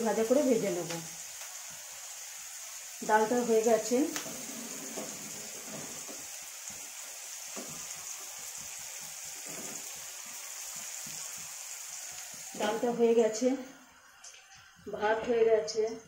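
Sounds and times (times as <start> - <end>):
onions sizzling in oil: 0.0 - 15.1.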